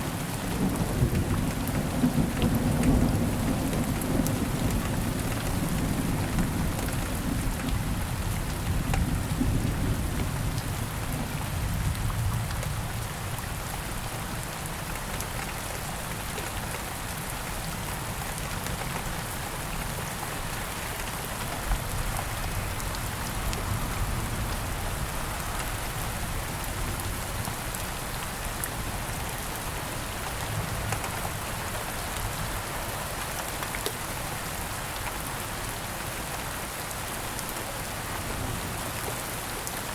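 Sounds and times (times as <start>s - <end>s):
rain pattering in woods: 0.0s - 39.9s.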